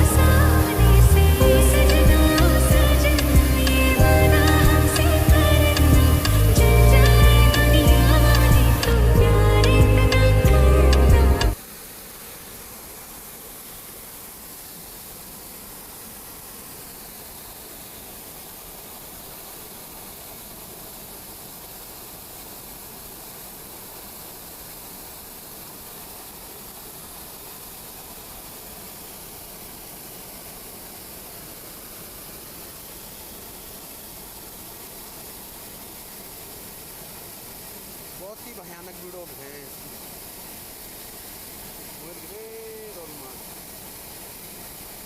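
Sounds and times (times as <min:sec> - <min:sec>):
steady rain hiss: 0:00.0 - 0:45.0.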